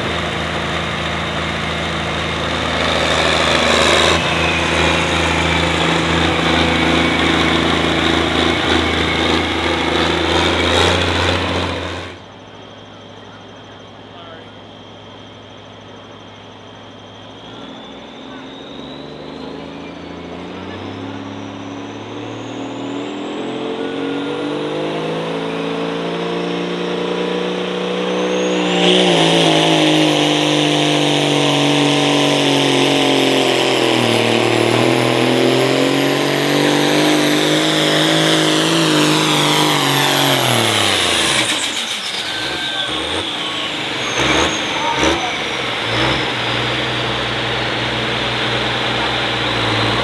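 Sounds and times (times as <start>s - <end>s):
diesel tractor engine revving: 0.0s - 50.0s
turbo whine: 0.0s - 50.0s.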